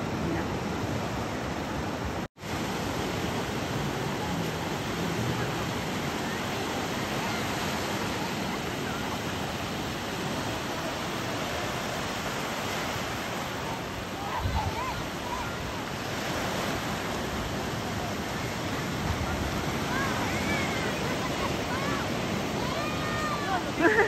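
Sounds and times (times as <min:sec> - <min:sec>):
surf breaking on a beach: 0:00.0 - 0:24.0.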